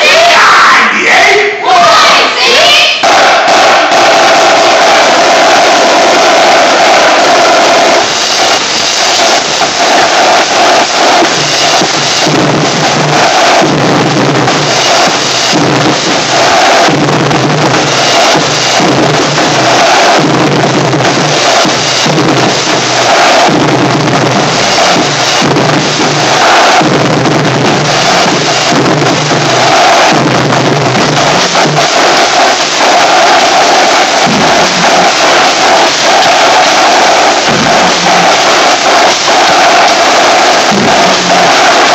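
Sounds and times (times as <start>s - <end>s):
marching snare drums: 3.0s - 41.9s.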